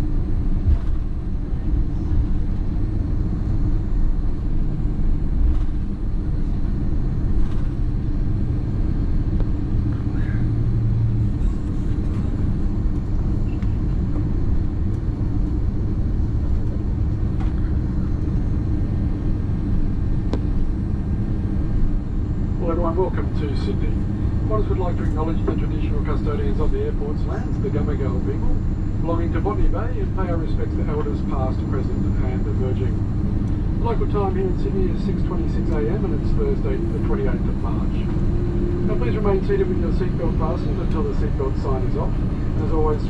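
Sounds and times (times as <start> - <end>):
aircraft engines low rumble: 0.0 - 43.0.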